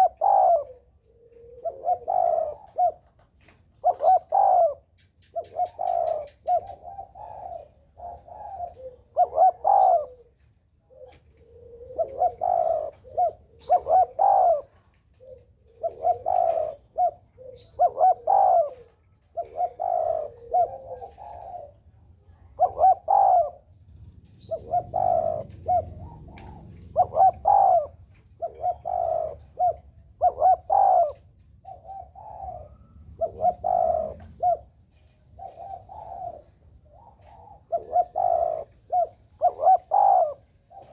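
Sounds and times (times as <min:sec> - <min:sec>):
small bird chirps: 0:00.0 - 0:10.3, 0:10.9 - 0:40.9
dove cooing: 0:00.0 - 0:40.9.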